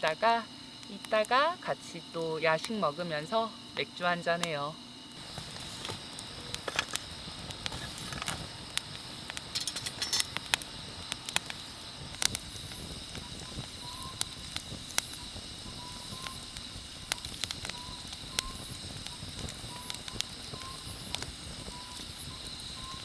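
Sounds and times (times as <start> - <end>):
night insects chirping: 0.0 - 23.0
wood fire crackling and popping: 0.0 - 23.0.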